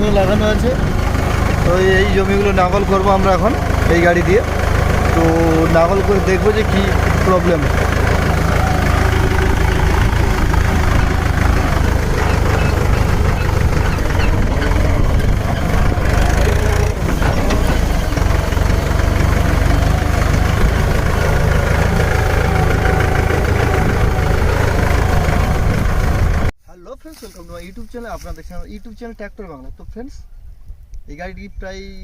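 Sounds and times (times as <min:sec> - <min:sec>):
tractor diesel engine running: 0:00.0 - 0:26.6.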